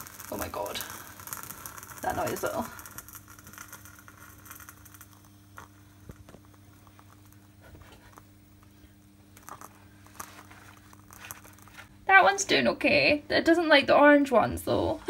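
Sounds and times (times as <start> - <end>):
candle wick crackling: 0.0 - 12.9
steady low hum: 0.0 - 15.0.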